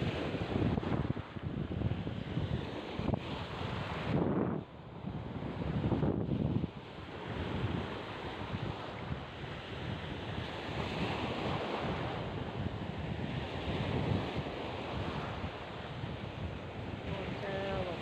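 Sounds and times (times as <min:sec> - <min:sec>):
surf washing on shore: 0:00.0 - 0:18.0
wind buffeting microphone: 0:00.0 - 0:18.0.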